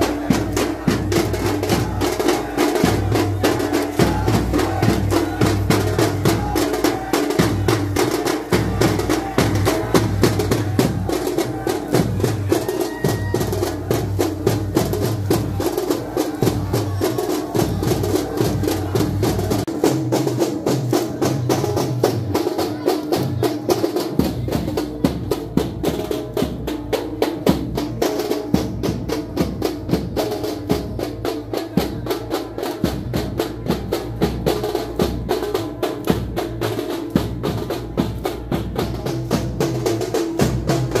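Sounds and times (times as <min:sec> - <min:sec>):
fast drumming: 0:00.0 - 0:41.0.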